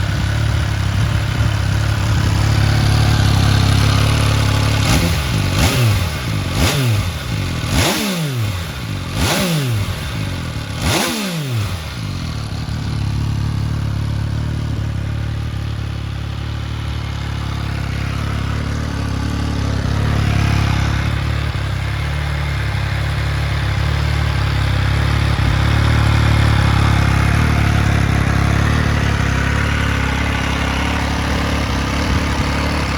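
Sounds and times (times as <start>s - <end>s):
motorcycle engine revving and idling: 0.0s - 32.9s.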